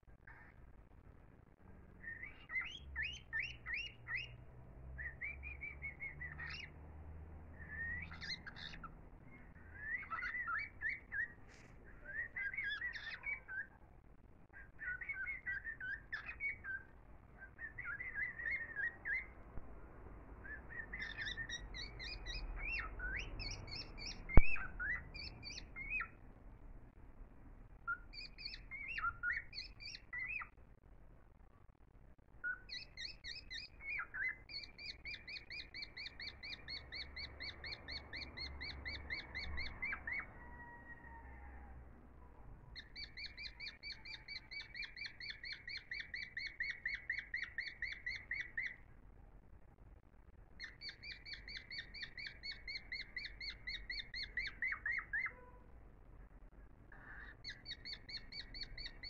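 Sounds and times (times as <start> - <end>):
small birds chirping: 0.0 - 27.0, 27.6 - 59.0
faint low rumble: 0.0 - 59.0.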